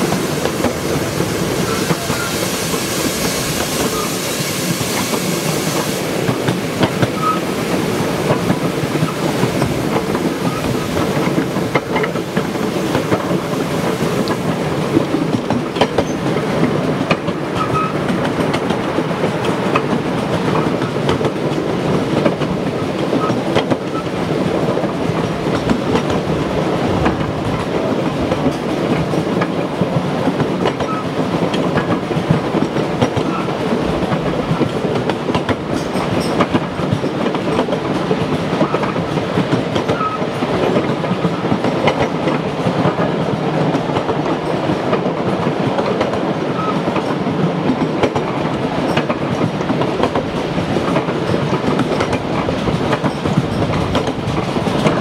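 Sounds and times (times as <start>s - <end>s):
train wheels rumbling and clicking: 0.0s - 55.0s.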